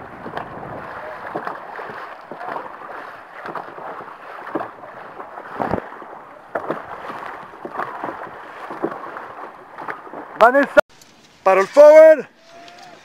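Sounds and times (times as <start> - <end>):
water rushing along hull: 0.0 - 10.8
paddles splashing through water: 0.0 - 13.0.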